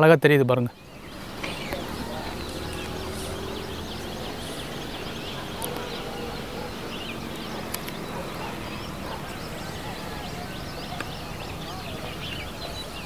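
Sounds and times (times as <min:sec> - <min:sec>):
many birds chirping: 0:00.0 - 0:13.0.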